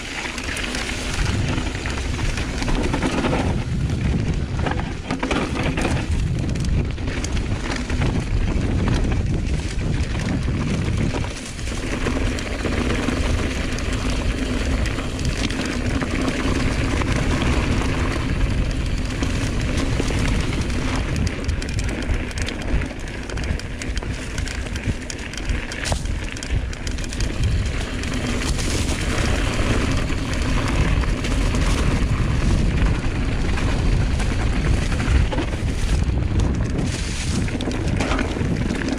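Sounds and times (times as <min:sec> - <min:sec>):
bike rattling and knocking: 0:00.0 - 0:38.9
bike tyres rumbling: 0:00.0 - 0:38.9
wind rushing over microphone: 0:00.0 - 0:38.9.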